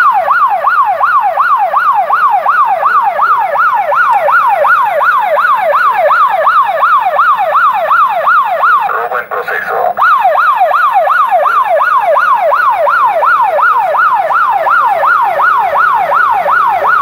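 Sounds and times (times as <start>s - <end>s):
electronic alarm siren wailing: 0.0s - 17.0s.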